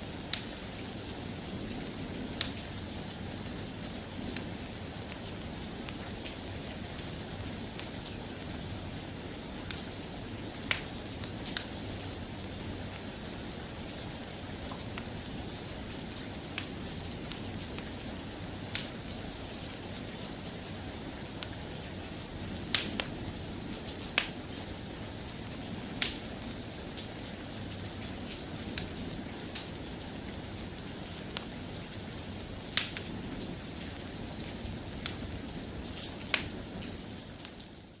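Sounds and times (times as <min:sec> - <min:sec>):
steady soft rain: 0:00.0 - 0:38.0.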